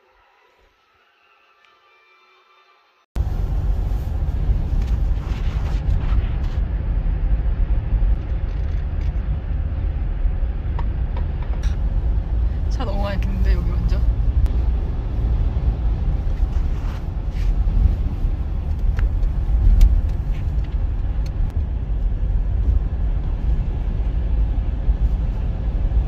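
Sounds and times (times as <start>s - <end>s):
car cabin road rumble: 3.2s - 26.0s.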